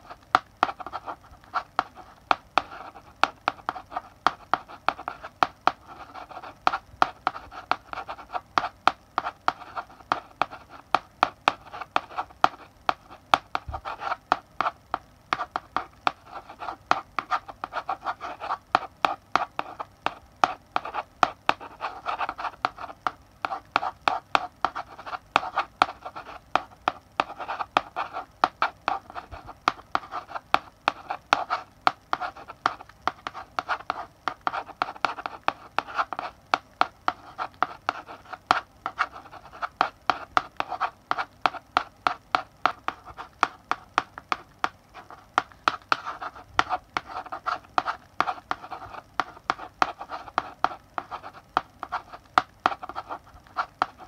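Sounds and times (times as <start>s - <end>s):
chalk scratching on blackboard: 0.0s - 44.4s, 45.0s - 54.0s
chalk tapping on board: 0.0s - 54.0s.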